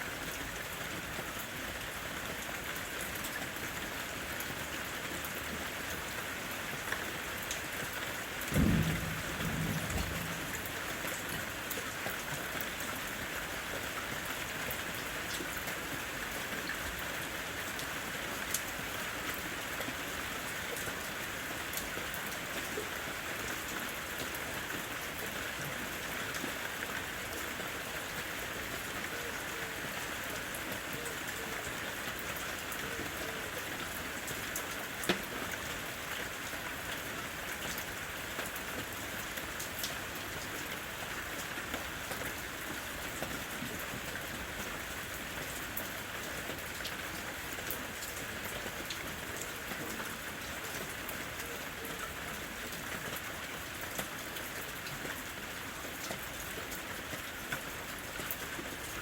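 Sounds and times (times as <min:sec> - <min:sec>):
steady rain falling: 0:00.0 - 0:59.0
louder raindrops: 0:00.1 - 0:59.0.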